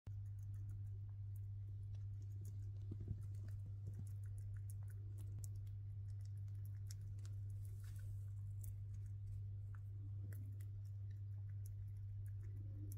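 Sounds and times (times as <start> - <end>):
chipmunk gnawing seed hulls: 0.1 - 12.9
steady low hum: 0.1 - 12.9.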